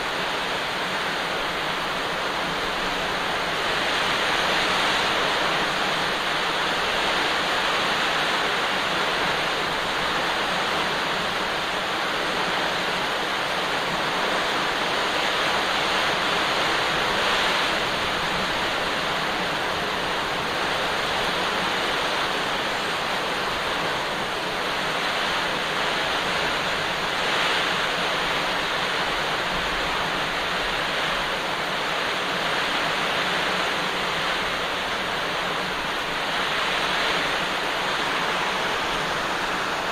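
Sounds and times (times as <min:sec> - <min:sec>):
very heavy rain pouring: 0:00.0 - 0:39.9.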